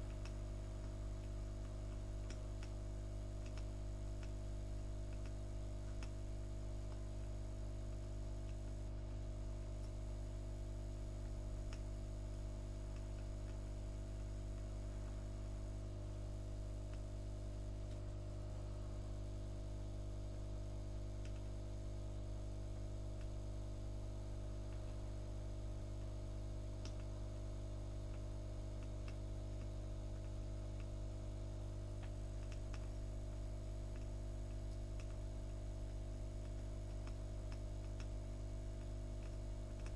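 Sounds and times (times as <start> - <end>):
faint ticks: 0.0 - 12.0, 12.8 - 18.2, 19.2 - 39.9
low electrical hum: 0.0 - 39.9.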